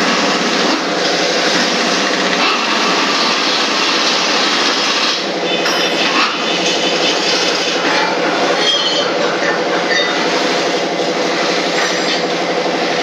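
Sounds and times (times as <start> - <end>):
loud mechanical din: 0.0 - 13.0.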